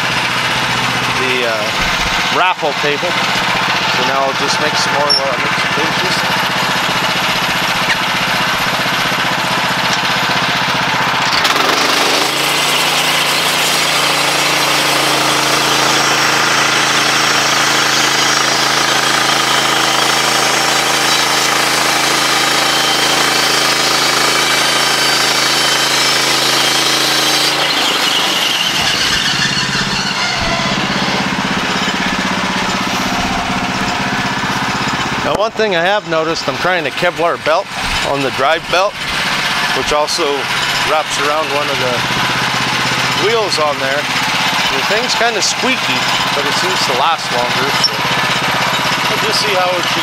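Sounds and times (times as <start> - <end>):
band blade sawing log: 0.0 - 50.0
sawmill gasoline engine running: 0.0 - 50.0.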